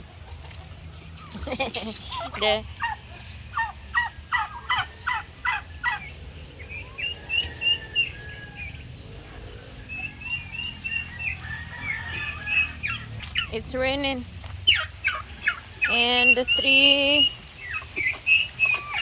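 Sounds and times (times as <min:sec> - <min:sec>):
turkeys calling: 0:00.0 - 0:19.0.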